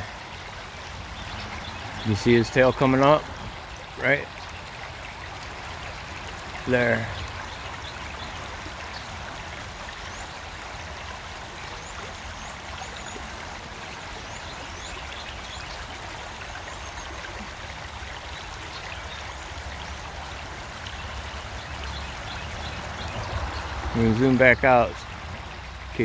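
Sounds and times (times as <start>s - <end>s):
water running over rocks: 0.0s - 26.0s.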